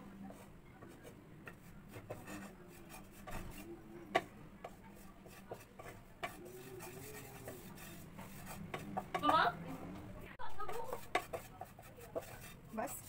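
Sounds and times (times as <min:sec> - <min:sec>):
wooden spatula scraping frying pan: 0:00.0 - 0:09.6, 0:10.4 - 0:13.0.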